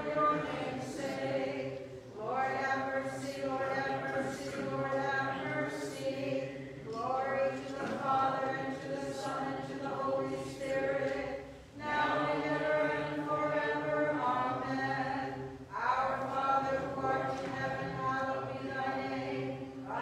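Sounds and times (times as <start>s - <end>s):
voices chanting: 0.0s - 20.0s.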